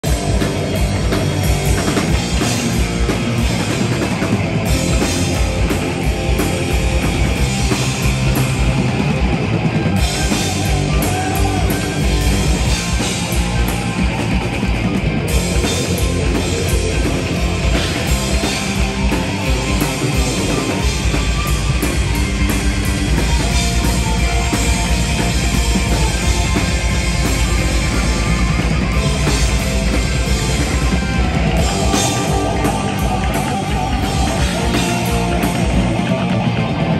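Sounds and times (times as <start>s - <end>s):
fast steady drum pulse: 0.0s - 36.7s
heavy metal band playing: 0.0s - 36.9s.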